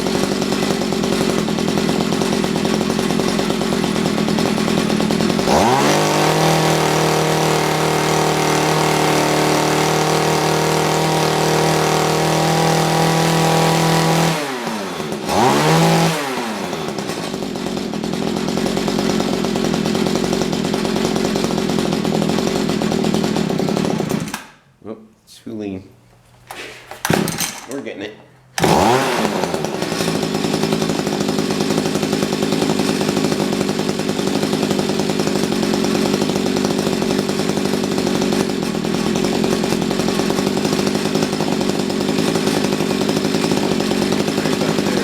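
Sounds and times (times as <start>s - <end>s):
small engine idling and revving: 0.0s - 24.5s, 28.5s - 45.0s.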